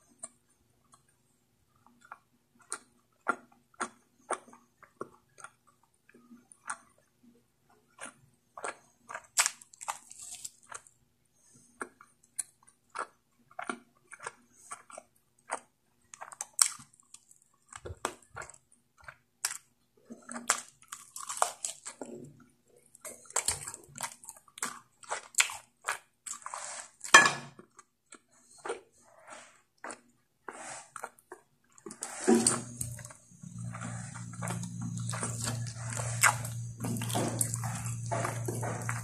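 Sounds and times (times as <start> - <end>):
person chewing with mouth smacks: 0.0 - 39.0.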